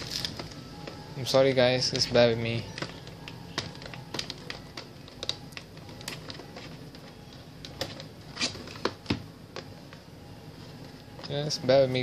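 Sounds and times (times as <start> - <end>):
fingers clicking on plastic packaging: 0.0 - 9.8.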